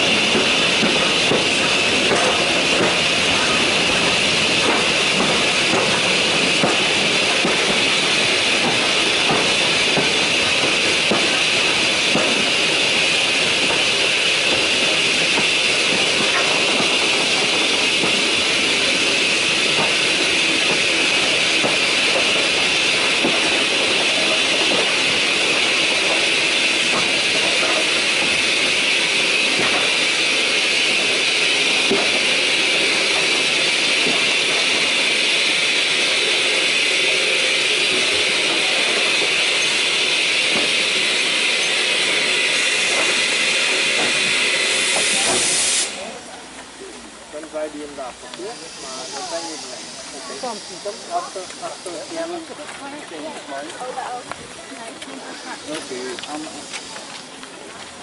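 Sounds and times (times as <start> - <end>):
train rushing hiss: 0.0 - 58.0.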